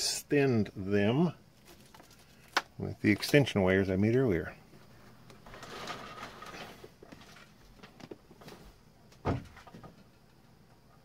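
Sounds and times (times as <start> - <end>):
rustling of wires and boxes: 1.5 - 10.9.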